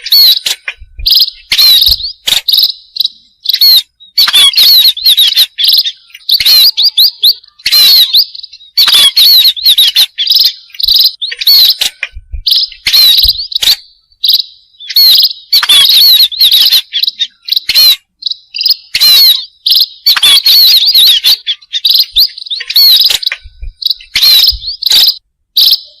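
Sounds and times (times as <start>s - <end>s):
finches twittering: 0.0s - 26.0s.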